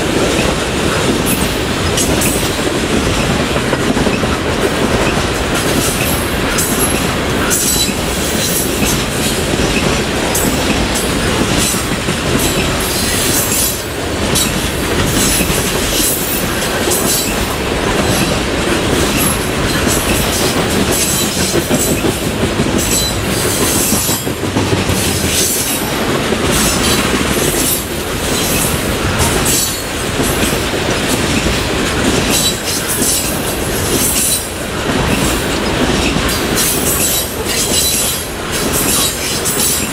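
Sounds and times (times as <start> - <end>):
freight train wheels on rails: 0.0 - 39.9
wheels clicking over rail joints: 0.0 - 39.9.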